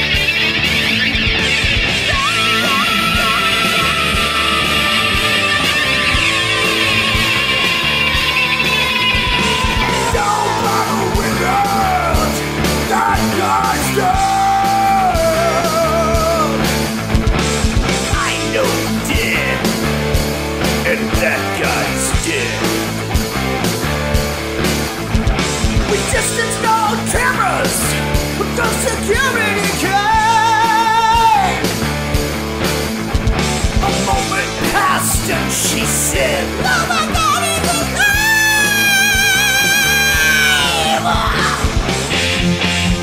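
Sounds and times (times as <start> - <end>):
rock music with drum beat: 0.0 - 43.0.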